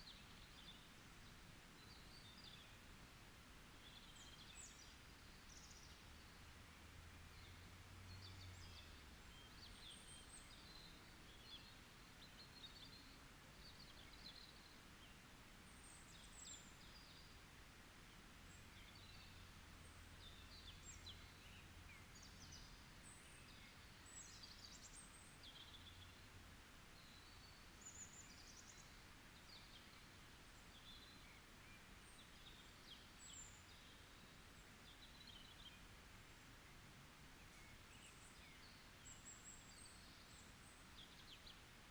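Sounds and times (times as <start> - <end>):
soft steady hiss: 0.0 - 41.9
songbirds chirping: 0.0 - 41.9.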